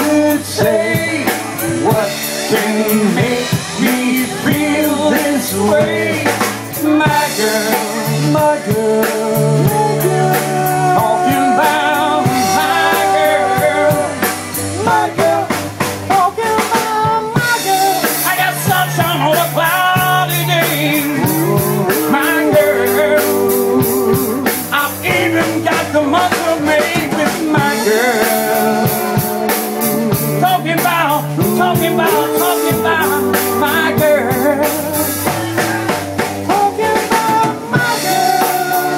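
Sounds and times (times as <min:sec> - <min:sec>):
drum kit with rimshots: 0:00.0 - 0:38.9
electric and acoustic guitars: 0:00.0 - 0:38.9
man singing: 0:00.0 - 0:38.9.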